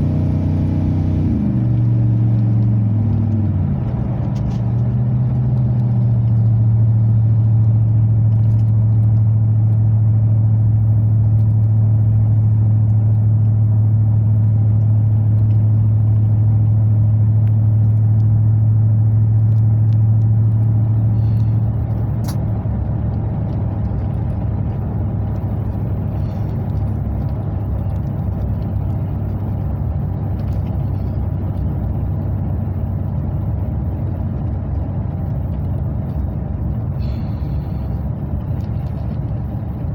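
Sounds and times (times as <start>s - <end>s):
truck exhaust drone: 0.0s - 39.9s.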